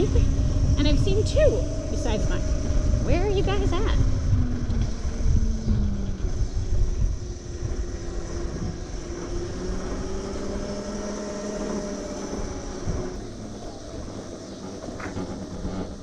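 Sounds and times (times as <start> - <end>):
electric motor whine: 0.0 - 16.0
wind rumble on microphone: 0.0 - 16.0.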